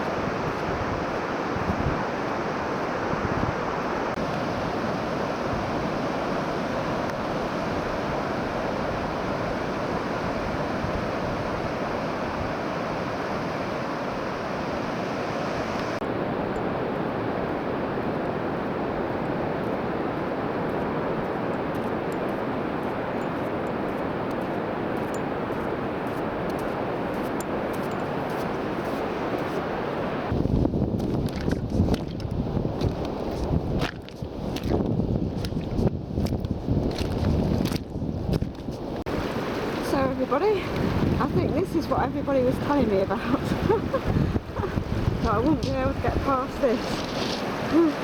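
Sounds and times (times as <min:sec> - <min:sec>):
moving water: 0:00.0 - 0:48.0
wind: 0:00.0 - 0:48.0.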